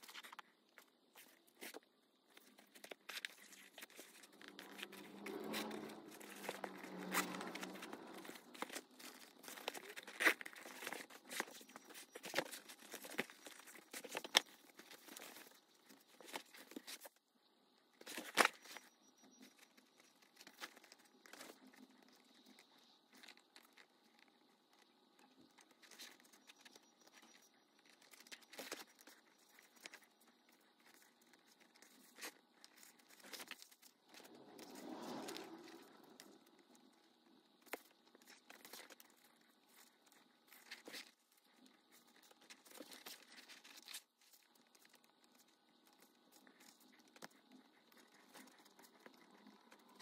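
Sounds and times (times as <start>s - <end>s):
crafting materials rustling: 0.0s - 17.2s, 17.9s - 50.0s.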